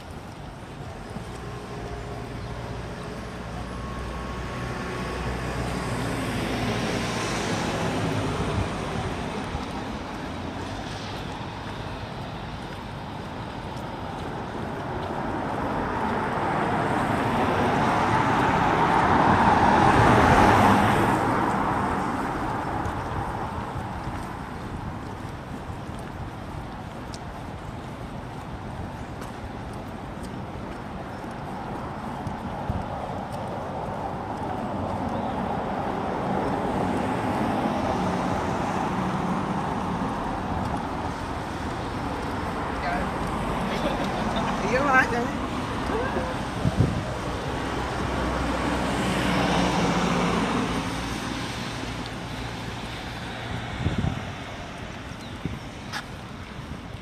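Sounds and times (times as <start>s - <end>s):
road vehicle passing: 0.0s - 57.0s.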